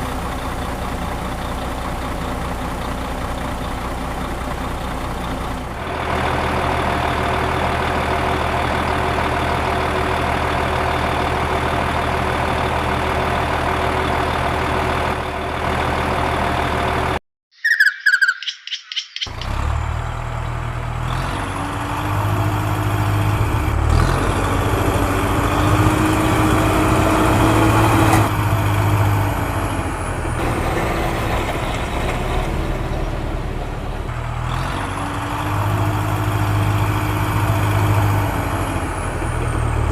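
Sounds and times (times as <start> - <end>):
heavy diesel engine running: 0.0 - 17.2, 19.3 - 39.9.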